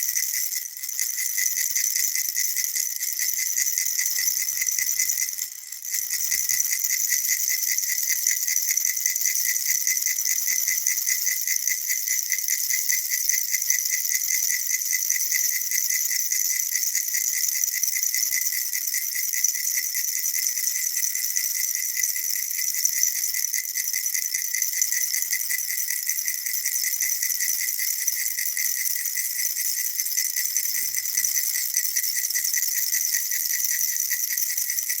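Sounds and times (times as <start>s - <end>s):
baby rattle shaken: 0.0s - 35.0s.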